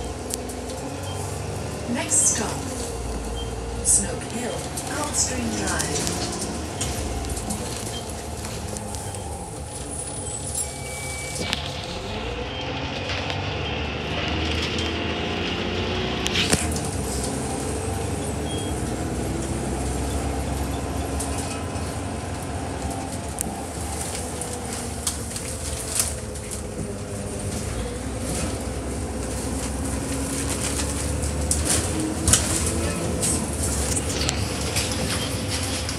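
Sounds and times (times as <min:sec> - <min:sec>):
bus engine and road rumble: 0:00.0 - 0:35.9
drivetrain whine: 0:00.0 - 0:35.9.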